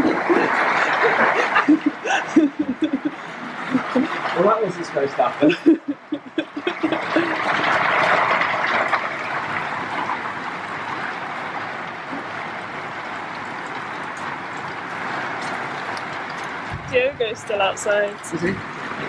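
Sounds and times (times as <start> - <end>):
heavy rain pouring: 0.0 - 19.0
raindrop taps: 0.0 - 19.0.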